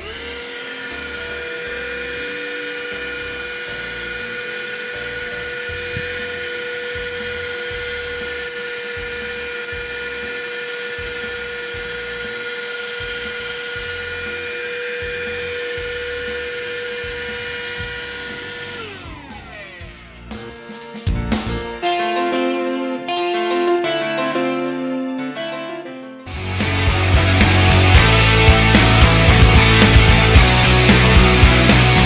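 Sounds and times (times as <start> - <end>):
handheld vacuum cleaner running: 0.0 - 23.4, 26.3 - 32.0.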